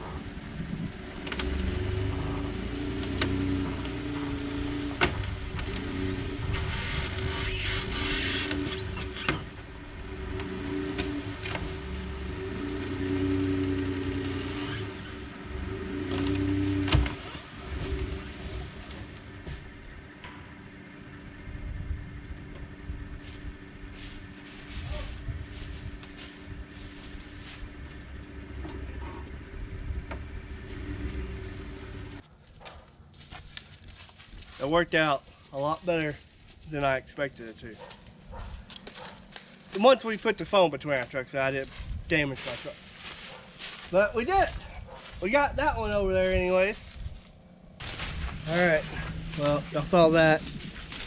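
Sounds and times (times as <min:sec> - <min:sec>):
pickup truck engine revving: 0:00.0 - 0:32.2, 0:36.8 - 0:51.0.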